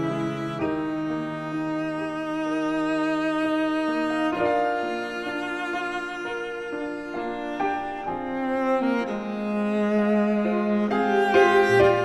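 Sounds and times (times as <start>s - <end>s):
bowed strings sustained notes: 0.0s - 12.0s.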